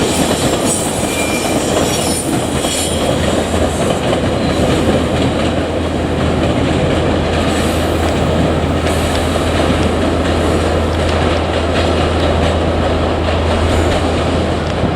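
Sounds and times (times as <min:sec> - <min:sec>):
train running on rails: 0:00.0 - 0:14.9.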